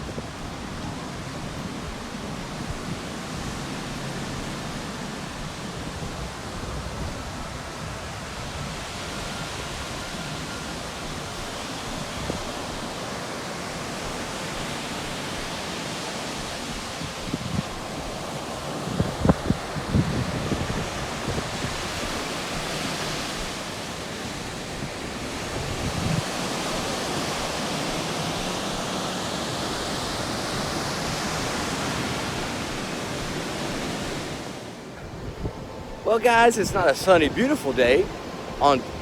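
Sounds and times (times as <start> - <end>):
surf rushing: 0.0 - 39.0
wind: 0.0 - 39.0.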